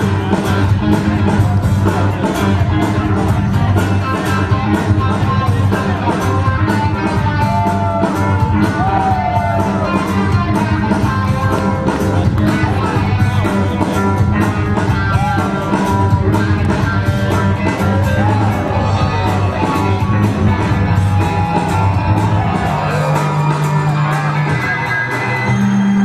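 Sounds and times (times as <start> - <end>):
loud dance music with bass: 0.0 - 26.0
voices calling out: 0.0 - 26.0.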